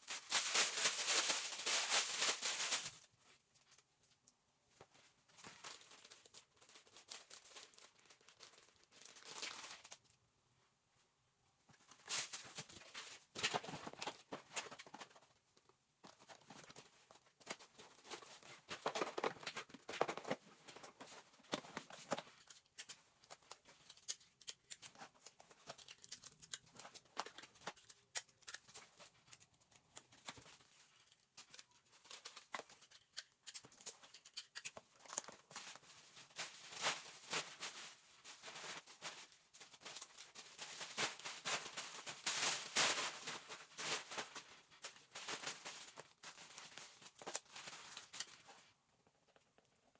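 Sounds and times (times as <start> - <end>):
rustling and crinkling: 0.0 - 49.9.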